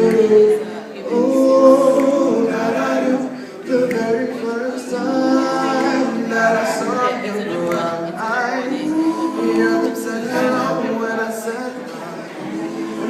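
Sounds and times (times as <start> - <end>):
a cappella group singing: 0.0 - 13.0.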